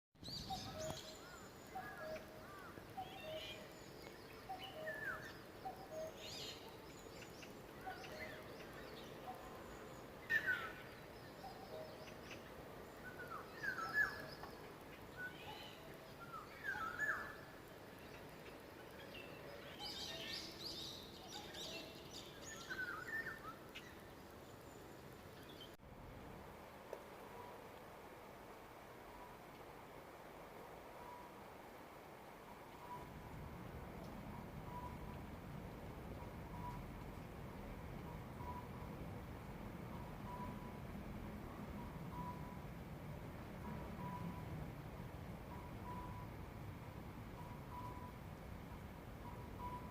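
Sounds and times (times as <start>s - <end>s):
faint background hiss: 0.2s - 49.9s.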